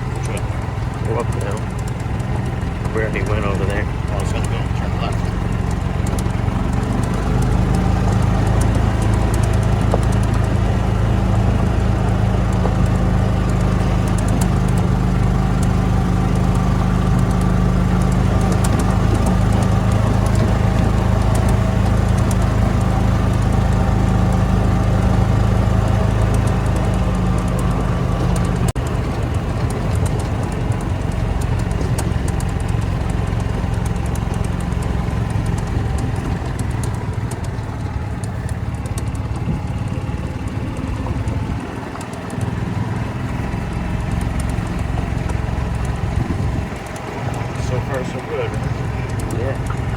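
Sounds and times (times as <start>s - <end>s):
golf cart humming: 0.0s - 49.9s.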